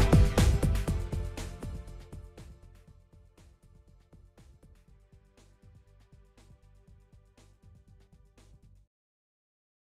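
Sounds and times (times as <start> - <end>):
background music with a beat: 0.0 - 8.9.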